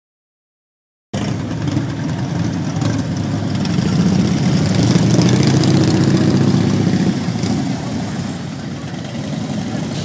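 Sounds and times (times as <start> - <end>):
motorcycle engines idling: 1.2 - 10.0.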